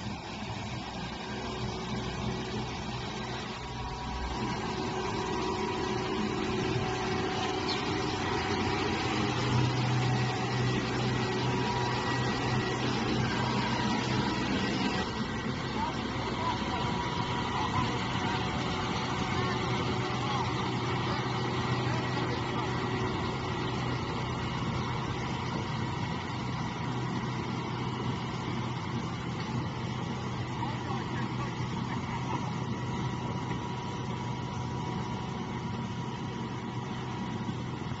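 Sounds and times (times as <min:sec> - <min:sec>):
truck diesel engine running: 0:00.0 - 0:38.0.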